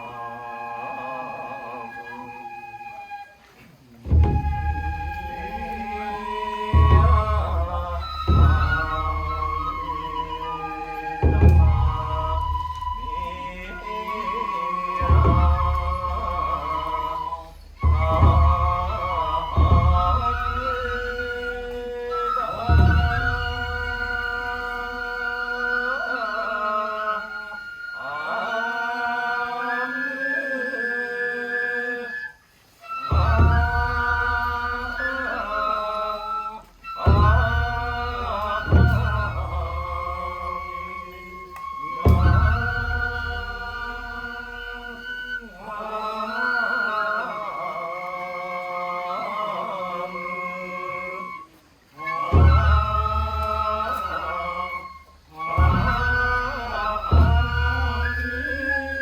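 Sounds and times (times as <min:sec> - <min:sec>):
chant sung in long notes: 0:00.0 - 0:59.0.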